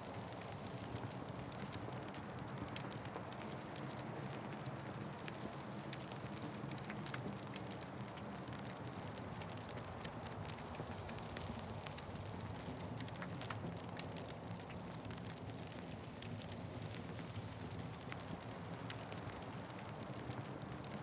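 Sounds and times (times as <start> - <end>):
wood fire crackling: 0.1 - 21.0.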